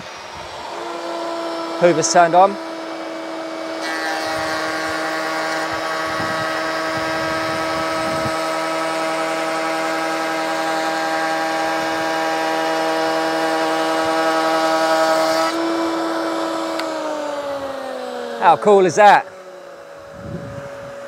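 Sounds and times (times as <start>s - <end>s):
dust extractor running: 0.0s - 21.0s
router motor whining: 0.0s - 21.0s.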